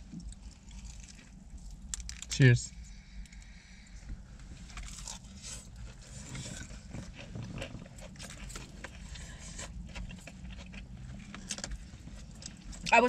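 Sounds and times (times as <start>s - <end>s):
chewing crispy food: 0.0s - 3.6s, 4.6s - 13.0s.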